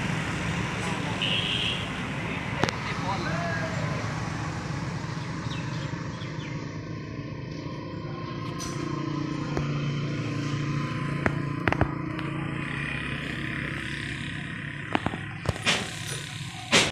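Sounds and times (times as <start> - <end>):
engine humming: 0.0 - 16.9.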